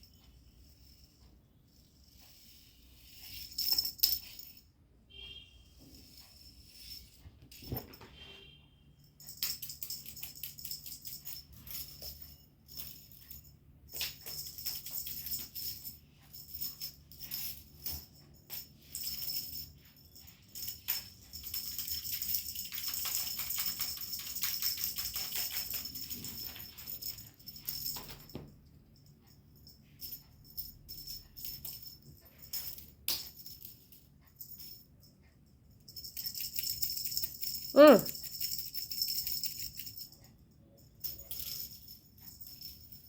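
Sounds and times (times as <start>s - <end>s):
jingling rattle of small objects: 2.0s - 4.7s, 9.2s - 28.5s, 29.2s - 34.9s, 35.7s - 43.0s.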